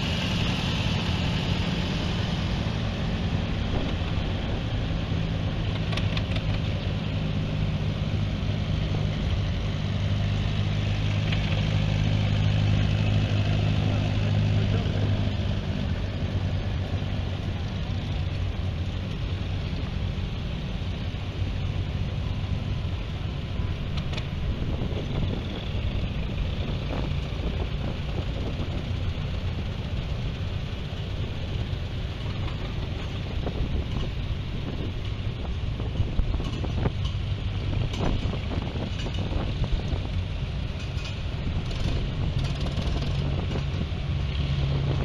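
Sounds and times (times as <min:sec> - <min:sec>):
rough low tractor rumble: 0:00.0 - 0:45.0
tractor engine drone: 0:00.0 - 0:45.0.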